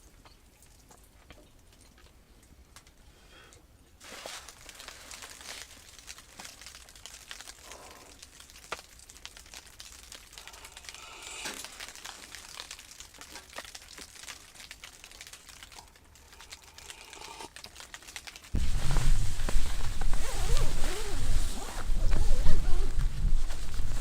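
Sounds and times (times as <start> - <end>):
crinkling and rustling: 0.0 - 3.0, 3.9 - 24.0.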